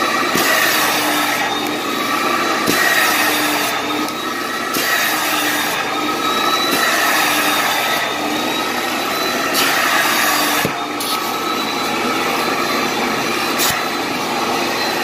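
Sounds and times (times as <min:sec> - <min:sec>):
extractor suction roar: 0:00.0 - 0:15.0.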